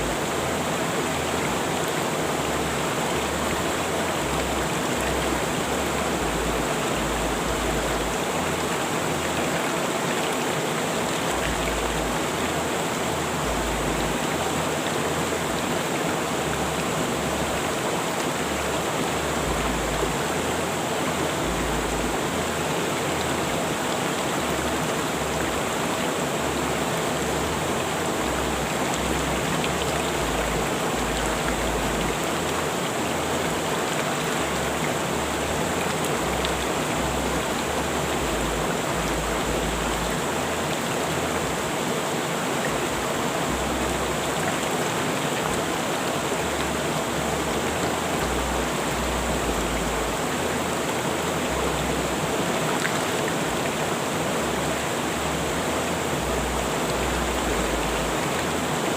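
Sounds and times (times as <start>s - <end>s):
rushing river water: 0.0s - 58.9s.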